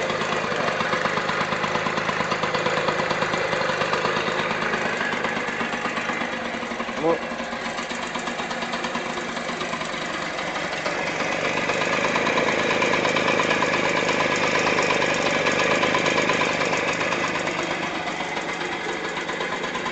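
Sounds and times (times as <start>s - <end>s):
two-stroke scooter engine revving: 0.0s - 19.9s.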